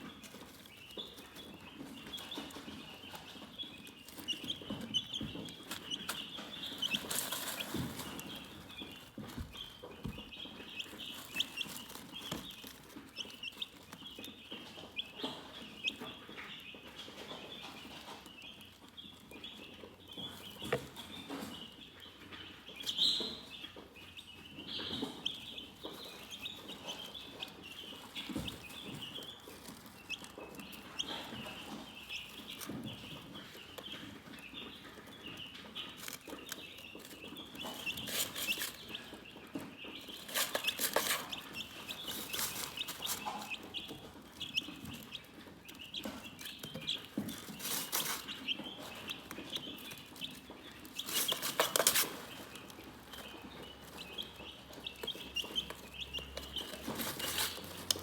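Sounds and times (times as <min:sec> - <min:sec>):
chickens peeping: 0:00.0 - 0:58.0
low chicken clucks: 0:00.0 - 0:58.0.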